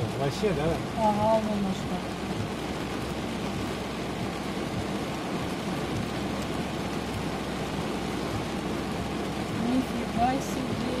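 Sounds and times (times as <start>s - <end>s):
heavy rain on car: 0.0s - 11.0s.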